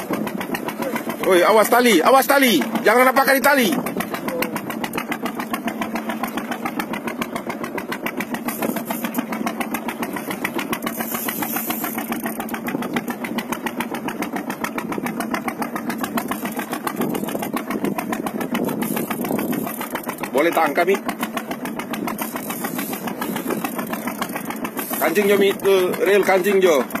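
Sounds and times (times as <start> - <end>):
boat engine running: 0.0 - 27.0
water splashing: 0.0 - 27.0.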